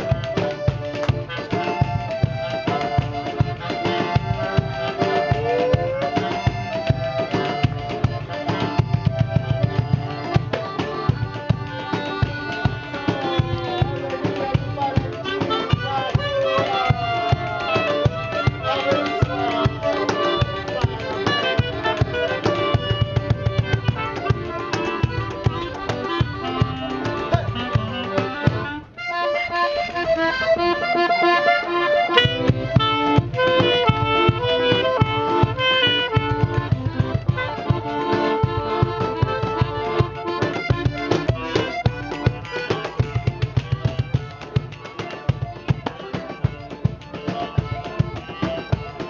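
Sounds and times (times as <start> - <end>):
steady drum beat: 0.0 - 28.8, 32.0 - 49.0
live band playing: 0.0 - 49.0.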